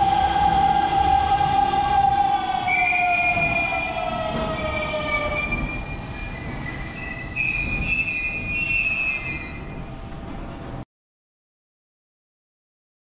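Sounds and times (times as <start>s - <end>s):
electric train whine: 0.0s - 10.7s
rumble of train cars: 0.0s - 10.8s.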